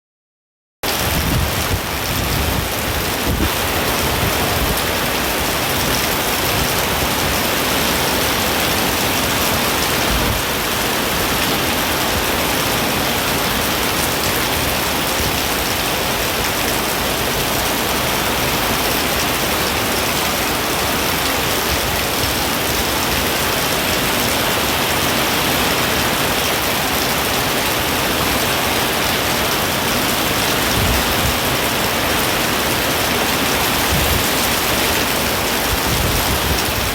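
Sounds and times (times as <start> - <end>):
heavy rain pouring: 0.8 - 36.9
strong wind: 0.8 - 36.9.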